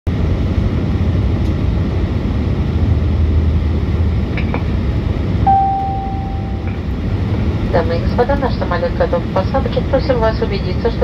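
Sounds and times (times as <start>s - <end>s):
airplane engines rumbling: 0.1s - 11.0s.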